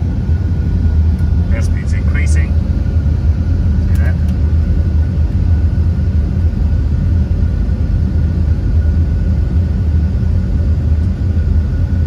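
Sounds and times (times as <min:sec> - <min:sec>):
faint steady whine: 0:00.0 - 0:12.0
jet engines roaring on takeoff: 0:00.0 - 0:12.0.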